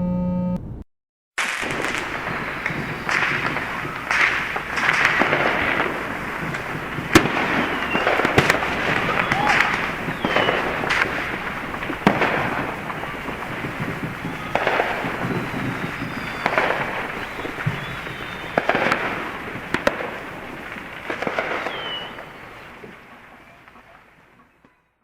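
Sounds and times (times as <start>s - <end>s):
sharp bangs: 1.4s - 23.8s
continuous crackling: 1.4s - 24.8s.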